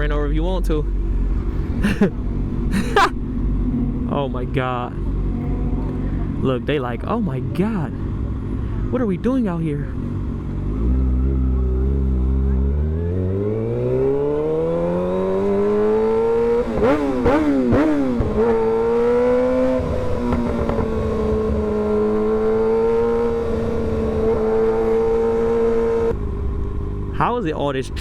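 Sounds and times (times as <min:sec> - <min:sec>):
motorcycle engine revving: 0:01.3 - 0:27.4.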